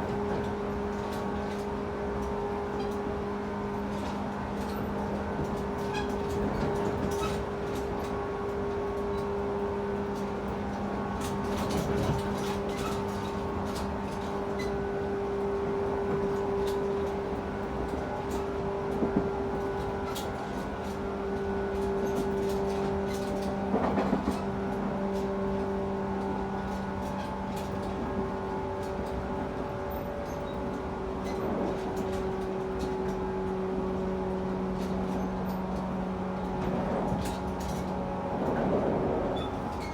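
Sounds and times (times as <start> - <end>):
wheels rumbling on track: 0.0 - 39.9.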